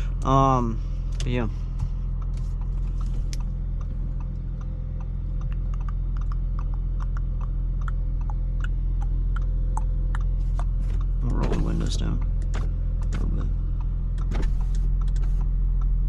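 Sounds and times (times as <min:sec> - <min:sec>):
low car cabin drone: 0:00.0 - 0:16.0.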